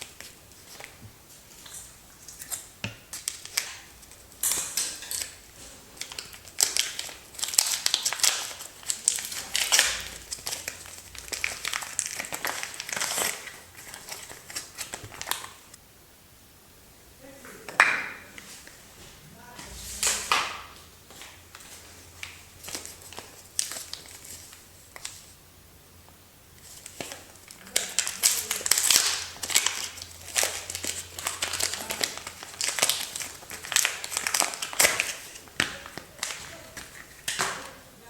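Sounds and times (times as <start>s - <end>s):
packaging crinkling and tearing: 0.0s - 15.8s, 20.0s - 25.3s, 26.6s - 37.8s.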